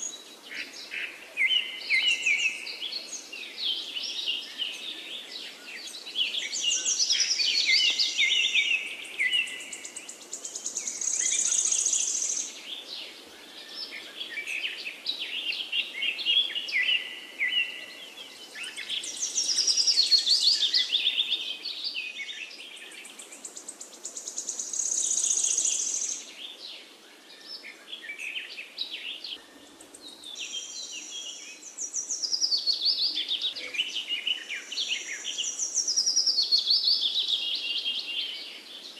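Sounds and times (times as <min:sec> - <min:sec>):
birds singing and chirping: 0:00.0 - 0:38.9
faint background hiss: 0:00.0 - 0:38.9.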